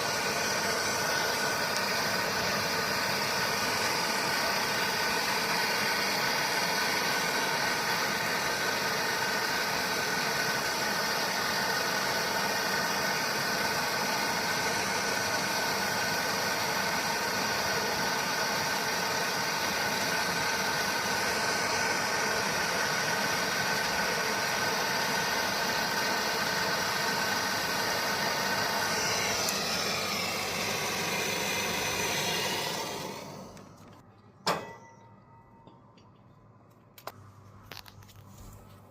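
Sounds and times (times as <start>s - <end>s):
air conditioner humming: 0.0s - 38.9s.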